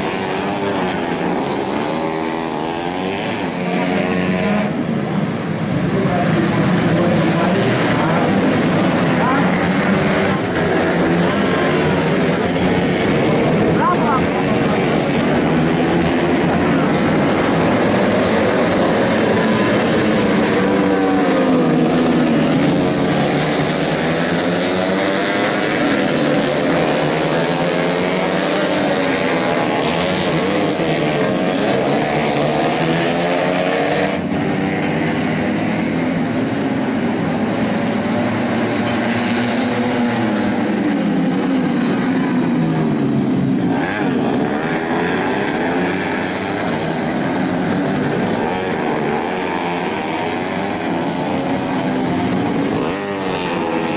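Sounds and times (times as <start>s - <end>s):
racing motorcycles at high revs: 0.0s - 53.9s.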